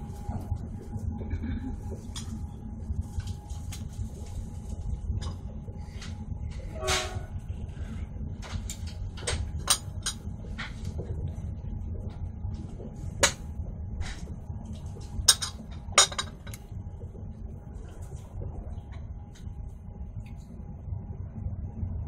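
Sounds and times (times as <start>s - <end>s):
train rumble inside carriage: 0.0s - 19.5s.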